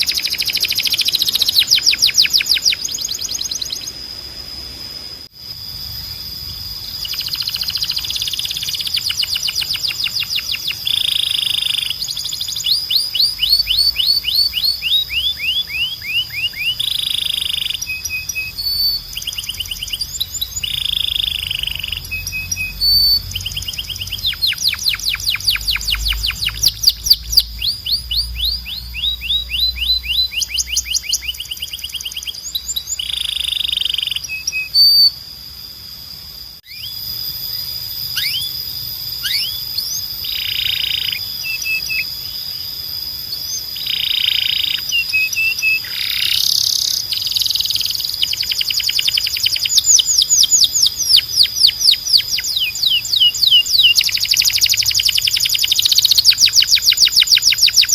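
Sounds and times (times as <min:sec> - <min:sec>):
canary singing: 0:00.0 - 0:04.6, 0:06.2 - 0:35.2, 0:36.7 - 0:57.9.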